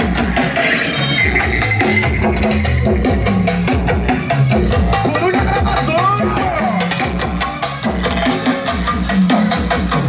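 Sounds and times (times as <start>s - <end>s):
music with heavy bass and drums: 0.0s - 10.0s.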